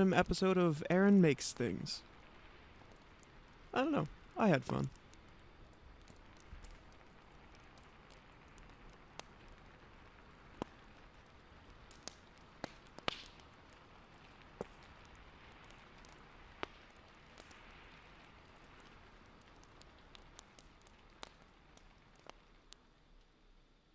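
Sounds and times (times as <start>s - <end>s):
rain on a rooftop: 0.0s - 23.9s
drips and ticks: 1.6s - 22.8s.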